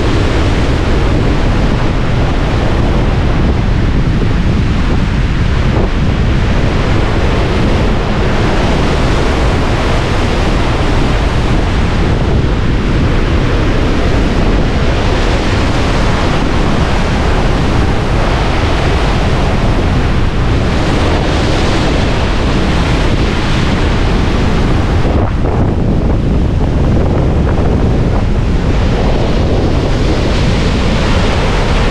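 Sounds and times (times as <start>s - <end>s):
surf breaking around pilings: 0.0s - 31.9s
wind buffeting microphone: 0.0s - 31.9s.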